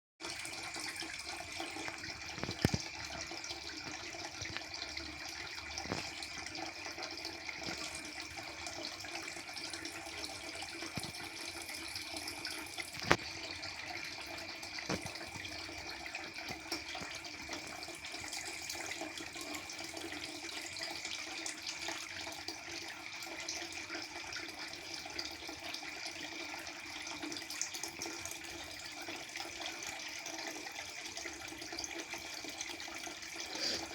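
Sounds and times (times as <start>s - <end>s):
aquarium water circulating: 0.2s - 33.9s.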